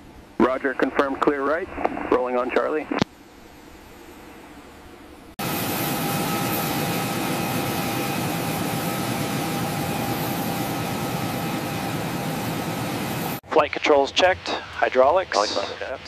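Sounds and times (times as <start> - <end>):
jet turbine whine and air rush: 0.0 - 16.0.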